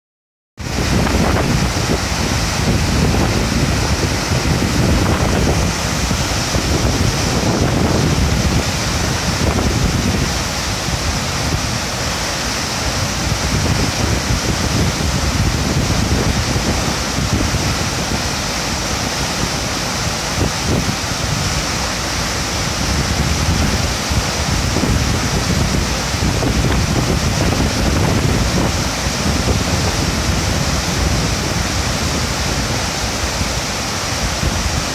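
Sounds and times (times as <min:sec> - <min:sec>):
waterfall rushing: 0:00.6 - 0:34.9
wind buffeting microphone: 0:00.6 - 0:34.9.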